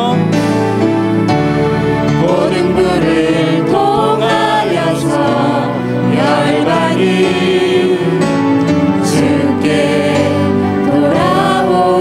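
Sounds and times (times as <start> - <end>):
congregation singing worship song: 0.0 - 12.0
instrumental accompaniment: 0.0 - 12.0.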